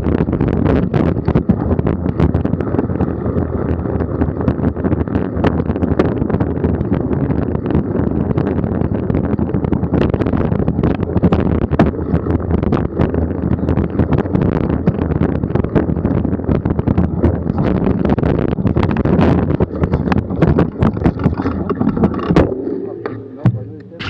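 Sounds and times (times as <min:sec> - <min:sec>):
bike knocks and rattles: 0:00.0 - 0:24.0
tyres rumbling on dirt trail: 0:00.0 - 0:24.0
wind buffeting microphone: 0:00.0 - 0:24.0.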